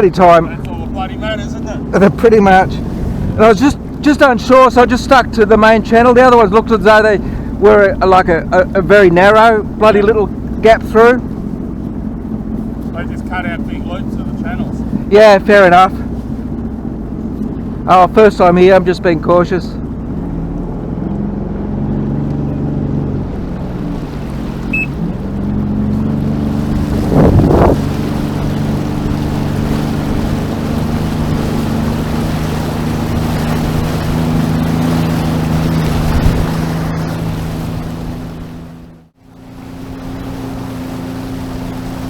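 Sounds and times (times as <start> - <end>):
watercraft engine cruising: 0.0 - 42.0
wind and water rushing: 0.0 - 42.0.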